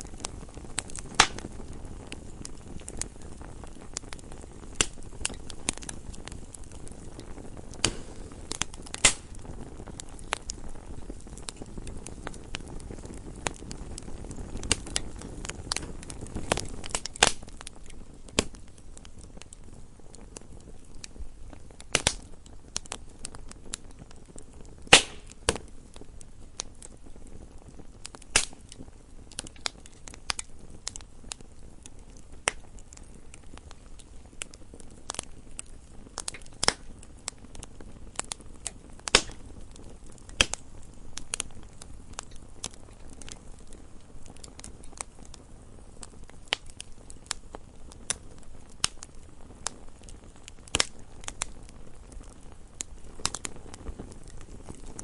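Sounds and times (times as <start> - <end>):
low fire hiss: 0.0 - 55.0
wood fire crackling and popping: 0.0 - 55.0.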